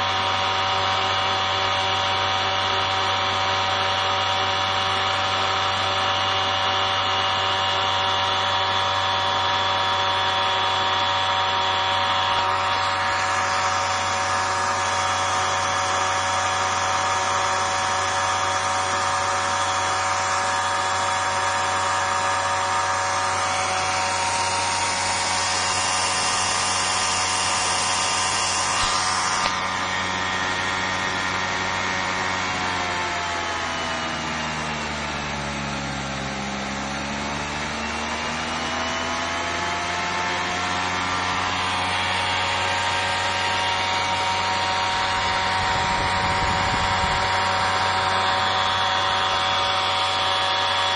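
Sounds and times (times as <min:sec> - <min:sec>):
electric motor whining hum: 0:00.0 - 0:50.9.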